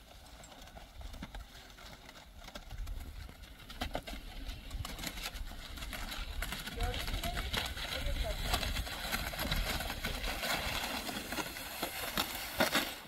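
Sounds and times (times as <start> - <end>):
crackles: 0.0 - 13.0
sled skis scraping over snow: 0.0 - 13.0.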